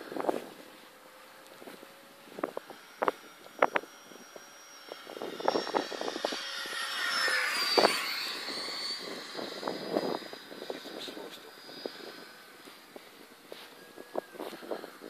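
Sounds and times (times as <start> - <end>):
model jet fan whooshing past: 0.0 - 15.0.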